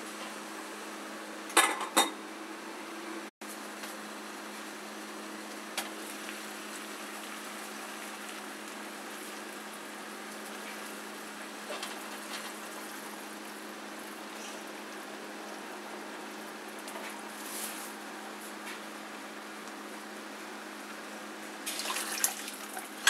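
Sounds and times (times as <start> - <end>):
water boiling in a pot: 3.4 - 23.0.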